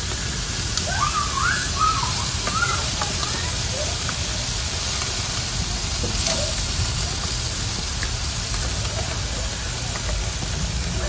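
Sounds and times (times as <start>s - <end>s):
chicken sizzling on a grill: 0.0s - 11.0s.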